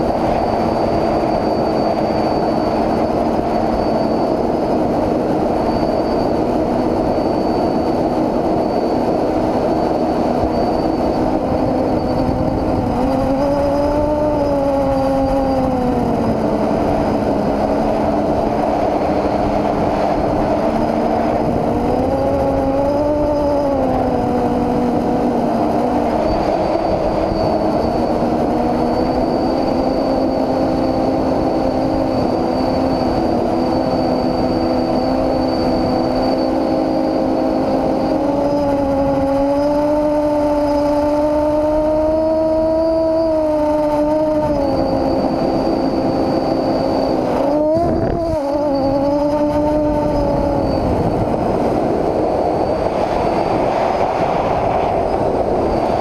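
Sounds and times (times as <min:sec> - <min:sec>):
quadcopter motors buzzing: 0:00.0 - 0:56.0.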